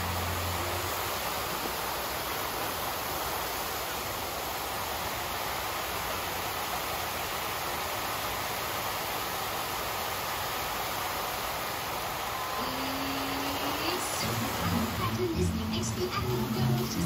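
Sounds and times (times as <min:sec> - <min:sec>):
fountain water jets spraying: 0:00.0 - 0:17.0.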